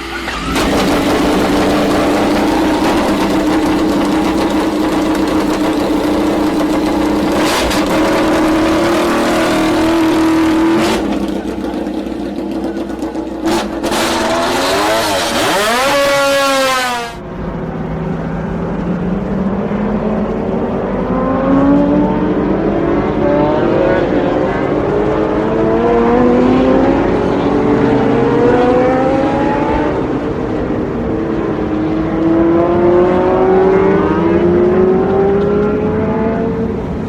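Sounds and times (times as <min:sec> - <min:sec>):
quieter engine rising in pitch: 0:00.0 - 0:37.0
racing motorcycle engine revving: 0:00.0 - 0:37.0.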